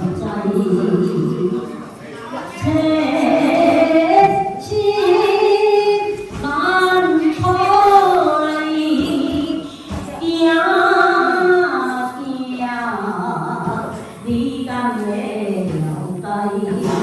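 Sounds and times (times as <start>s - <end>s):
woman singing unaccompanied: 0.0s - 1.8s, 2.5s - 17.0s.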